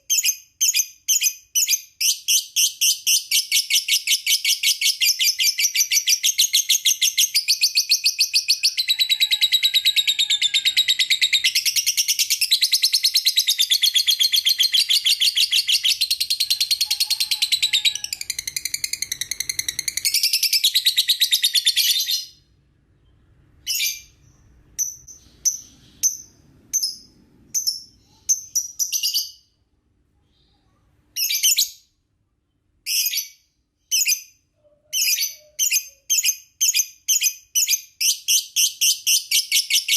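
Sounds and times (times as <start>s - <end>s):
lovebird chirps: 0.0s - 29.6s, 30.3s - 32.0s, 32.8s - 39.9s.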